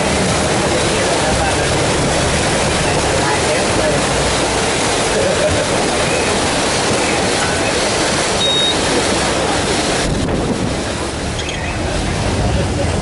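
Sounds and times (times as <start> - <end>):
boat engine and water roar: 0.0 - 13.0.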